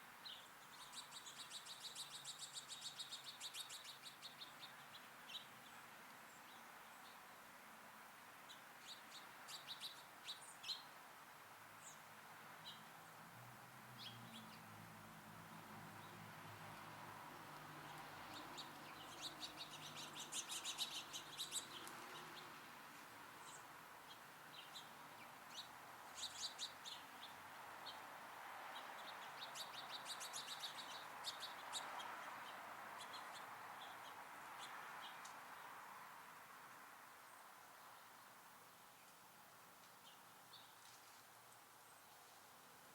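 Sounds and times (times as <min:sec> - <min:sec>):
faint steady background noise: 0:00.0 - 0:42.9
songbirds chirping: 0:00.0 - 0:42.9.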